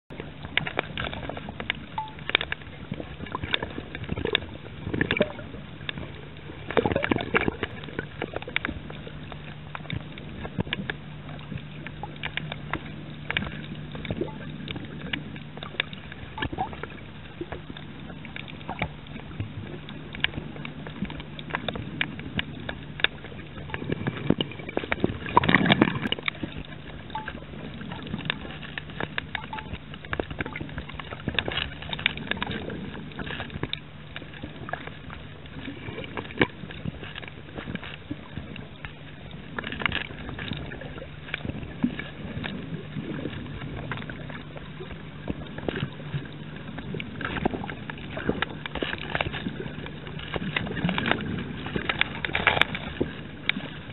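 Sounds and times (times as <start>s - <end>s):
boat engine hum underwater: 0.0s - 53.9s
reef clicks and crackles: 0.0s - 53.9s
water whooshing surges: 0.1s - 53.9s.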